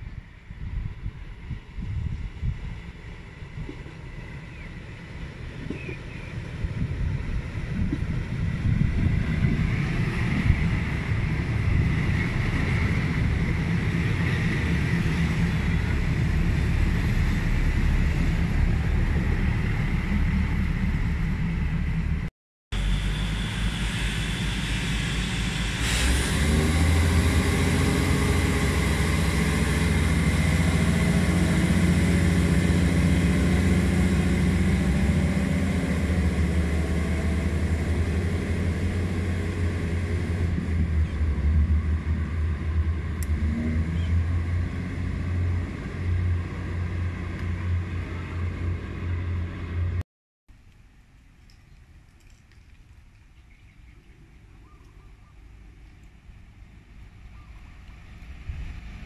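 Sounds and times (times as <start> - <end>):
diesel locomotive engine: 0.0 - 50.0, 52.1 - 59.0
diesel railcar droning: 0.0 - 50.0, 55.4 - 59.0.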